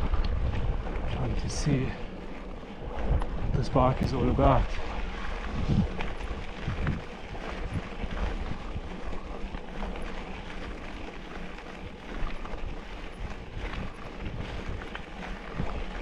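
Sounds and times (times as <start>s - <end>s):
bike clicks and rattles: 0.0s - 16.0s
mountain bike rolling on rough ground: 0.0s - 16.0s
wind on microphone: 0.0s - 16.0s.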